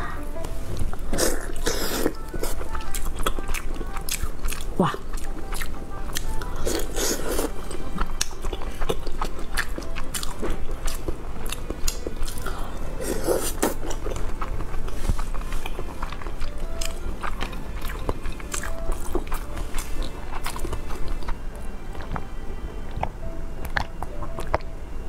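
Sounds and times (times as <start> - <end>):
person chewing food: 0.4 - 24.7.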